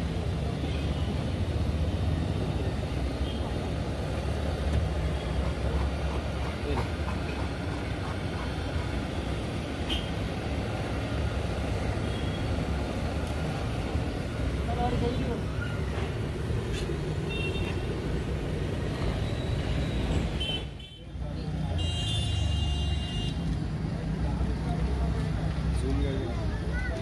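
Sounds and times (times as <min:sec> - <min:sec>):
street traffic rumble: 0:00.0 - 0:27.0.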